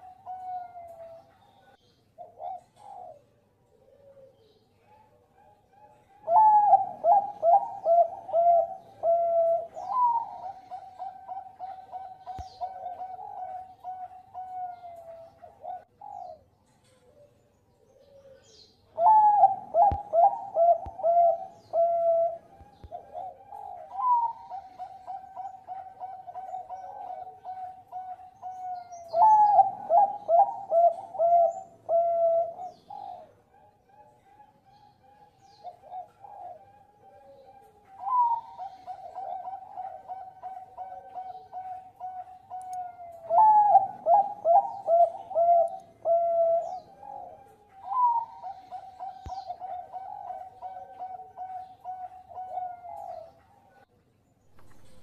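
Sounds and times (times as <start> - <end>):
dove cooing: 0.0 - 53.8, 54.5 - 55.0.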